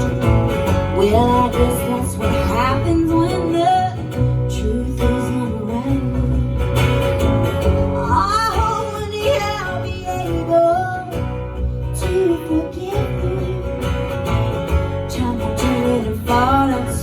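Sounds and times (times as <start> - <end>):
person singing: 0.0 - 6.8, 7.9 - 14.3, 14.9 - 17.0
guitar playing: 0.0 - 17.0.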